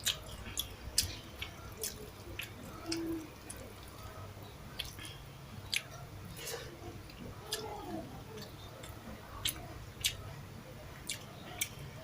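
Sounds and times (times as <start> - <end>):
chewing wet food: 0.0 - 12.0.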